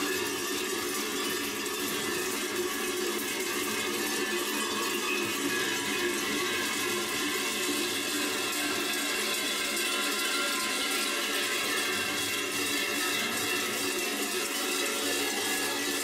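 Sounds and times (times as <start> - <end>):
cowbells clanging: 0.0 - 16.0.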